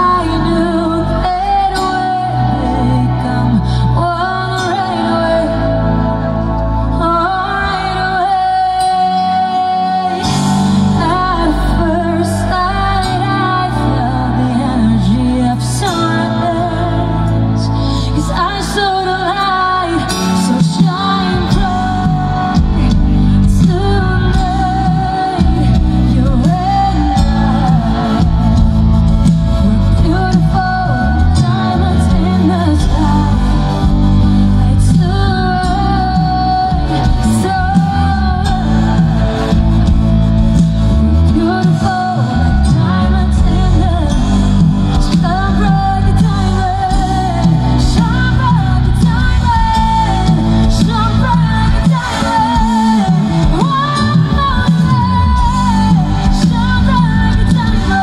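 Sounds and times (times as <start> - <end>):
bass guitar: 0.0 - 58.0
keyboards: 0.0 - 58.0
woman singing into microphone: 0.0 - 58.0.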